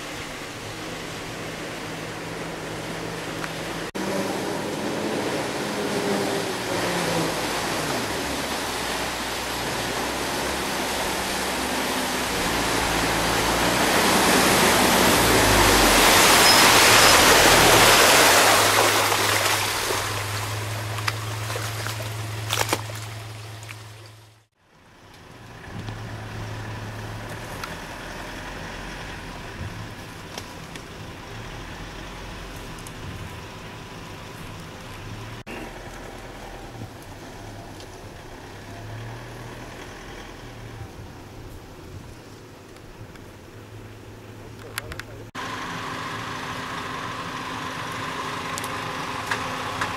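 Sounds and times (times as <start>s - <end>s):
suv engine hum: 0.0s - 49.9s.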